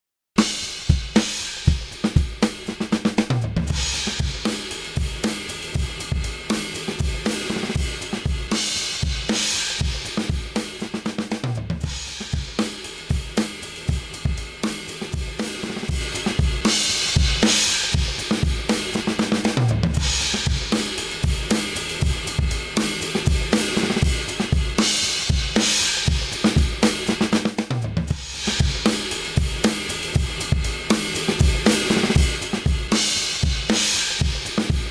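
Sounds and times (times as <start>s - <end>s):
drum kit groove: 0.4s - 34.9s.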